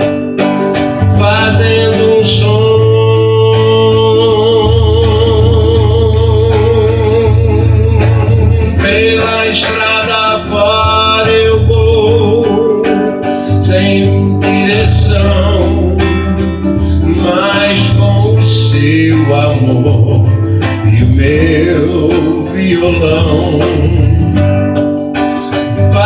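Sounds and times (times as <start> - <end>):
acoustic guitar: 0.0 - 26.0
man singing with vibrato: 0.8 - 26.0.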